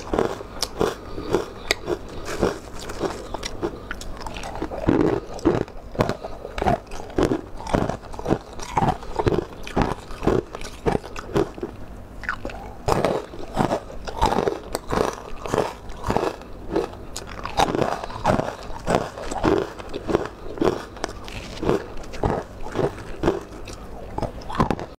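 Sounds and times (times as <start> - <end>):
crunchy chewing: 0.0 - 24.9.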